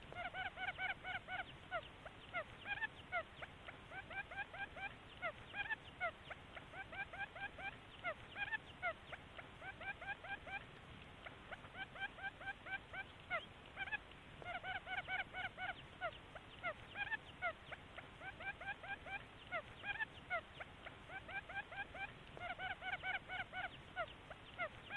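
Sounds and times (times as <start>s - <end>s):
quail chirping: 0.0s - 24.9s.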